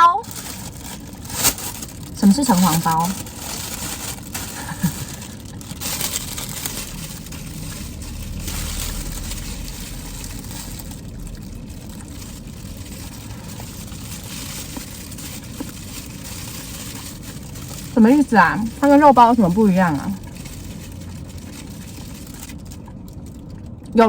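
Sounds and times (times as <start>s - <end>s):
low rumble: 0.0s - 24.0s
rushing background noise: 0.0s - 24.0s.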